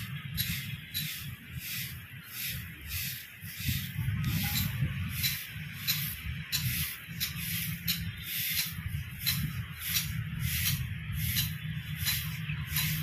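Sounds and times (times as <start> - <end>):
low rumble: 0.0 - 13.0
twig broom sweeping sand: 0.0 - 13.0.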